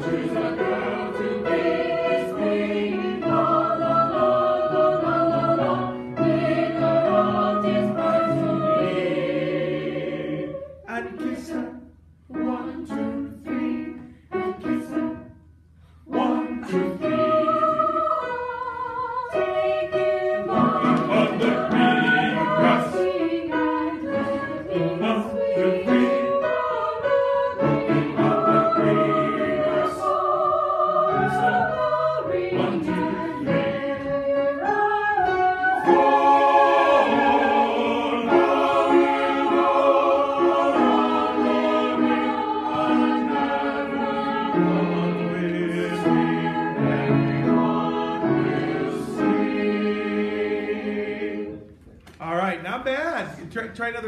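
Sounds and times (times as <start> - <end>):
choir singing in parts: 0.0 - 15.4, 16.0 - 51.8.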